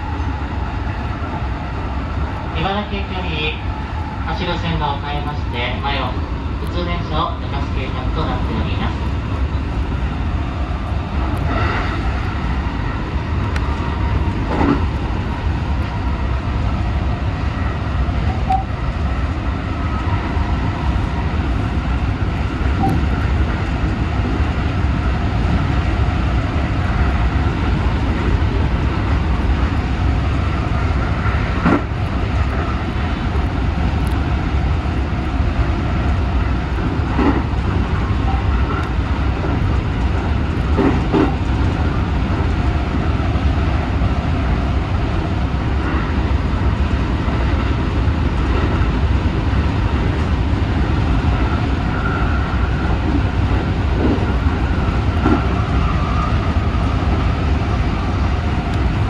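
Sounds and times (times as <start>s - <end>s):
train wheels rumbling on rail: 0.0s - 59.0s
rushing air: 8.9s - 59.0s.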